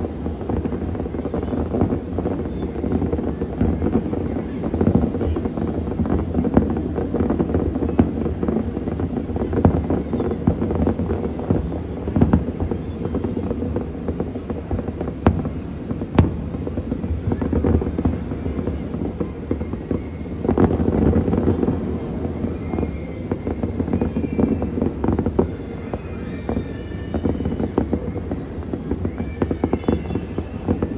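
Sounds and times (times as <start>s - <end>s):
distant fireworks bangs and crackles: 0.0s - 30.9s.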